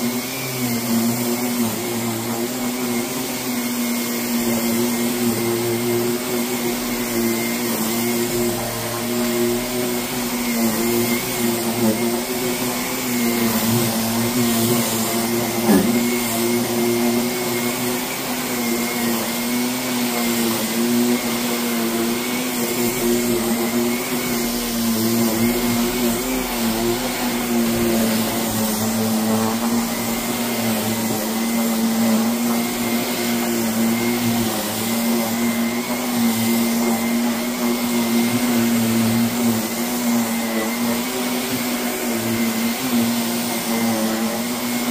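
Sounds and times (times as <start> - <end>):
motor running steadily: 0.0 - 44.9.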